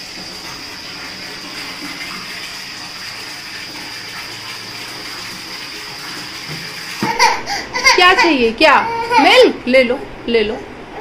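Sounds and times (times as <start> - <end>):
water running from a tap: 0.0 - 9.6.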